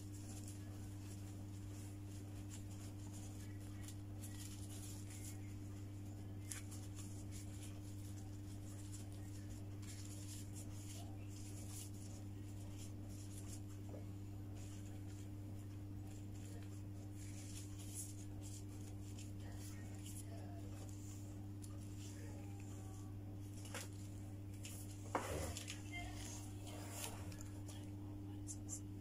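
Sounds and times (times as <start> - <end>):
rustling of wrappers: 0.0 - 13.9, 14.6 - 27.9
low electrical hum: 0.0 - 29.0.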